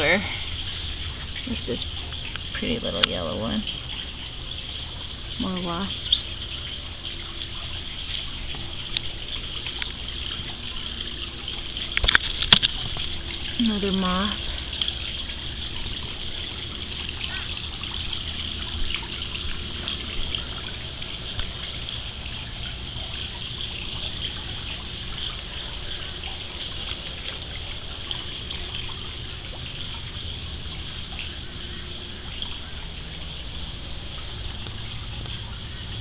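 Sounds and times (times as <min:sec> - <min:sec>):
low steady hum: 0:00.0 - 0:36.0
pool water trickling and splashing: 0:00.0 - 0:36.0.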